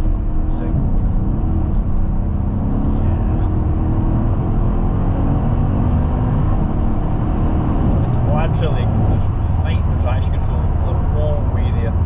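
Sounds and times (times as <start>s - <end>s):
car engine drone from cabin: 0.0s - 12.0s.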